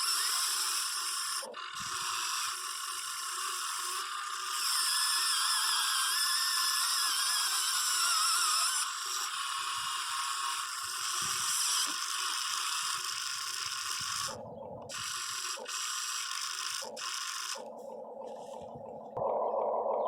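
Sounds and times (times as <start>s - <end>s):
toy excavator motors whining: 0.0s - 19.2s.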